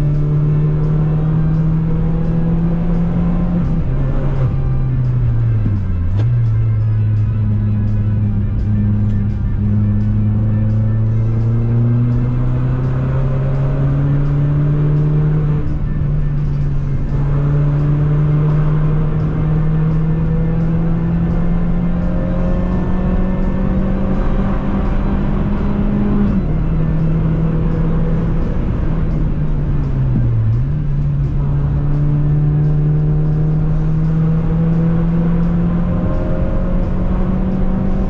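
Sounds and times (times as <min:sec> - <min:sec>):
car engine droning: 0:00.0 - 0:38.0.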